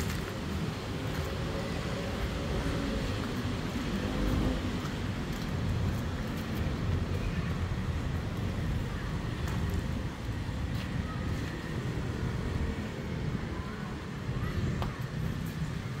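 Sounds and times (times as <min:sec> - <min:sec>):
faint voices: 0:00.0 - 0:16.0
low outdoor rumble: 0:00.0 - 0:16.0.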